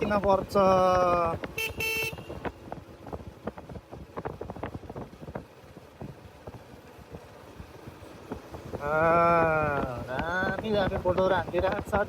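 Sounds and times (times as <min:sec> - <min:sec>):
low engine rumble: 0:00.0 - 0:12.0
motorcycle knocks and rattles: 0:00.0 - 0:12.0
wind on microphone: 0:00.0 - 0:12.0.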